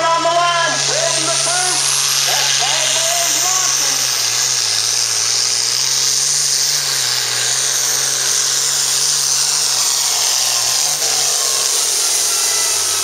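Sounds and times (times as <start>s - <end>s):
diesel tractor engine under load: 0.0s - 13.0s
high turbo whine: 0.0s - 13.0s.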